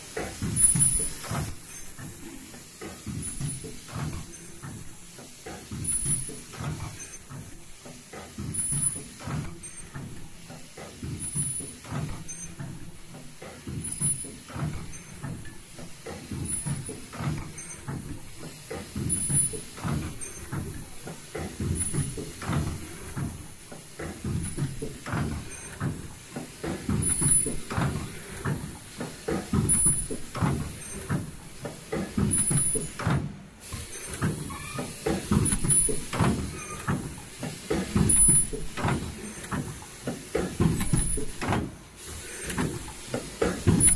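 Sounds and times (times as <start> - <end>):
machine clatter of rollers: 0.0 - 43.9.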